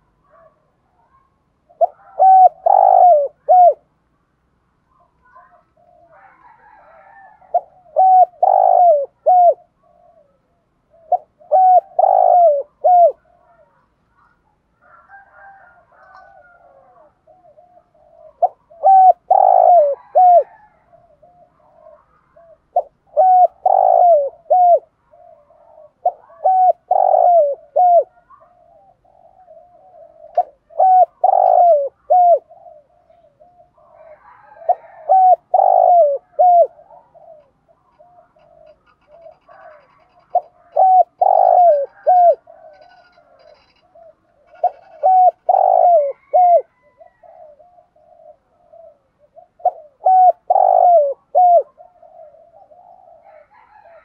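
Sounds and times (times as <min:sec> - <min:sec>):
dove cooing: 0:00.0 - 0:04.0, 0:04.9 - 0:54.0.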